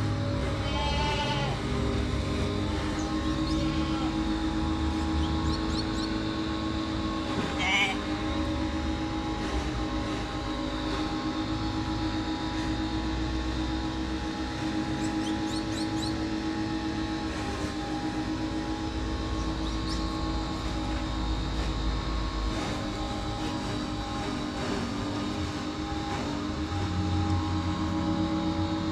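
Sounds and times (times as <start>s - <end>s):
motor humming: 0.0s - 28.9s.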